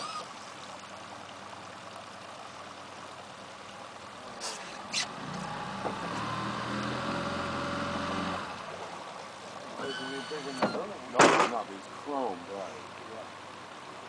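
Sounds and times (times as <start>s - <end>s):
boat motor humming: 0.0s - 14.0s
river water lapping: 0.0s - 14.0s.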